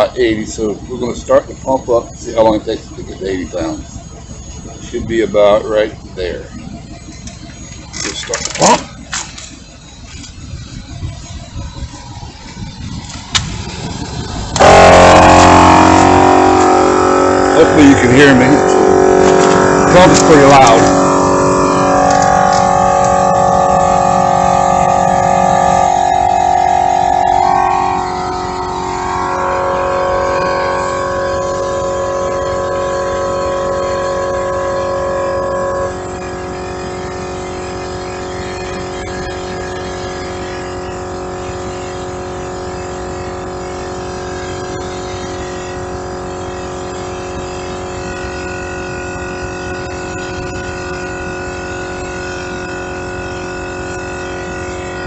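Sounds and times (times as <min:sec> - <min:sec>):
air compressor motor hum: 0:00.0 - 0:55.0.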